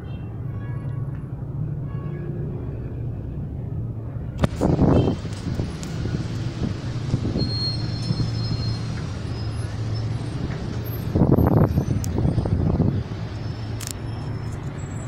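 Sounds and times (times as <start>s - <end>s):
cars and bus idling in traffic: 0.0s - 15.0s.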